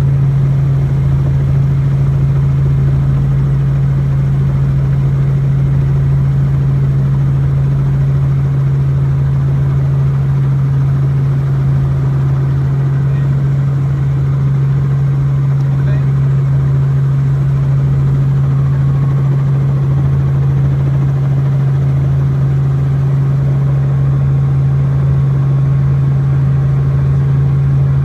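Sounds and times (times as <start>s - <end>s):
helicopter engine and rotors drone: 0.0s - 28.0s.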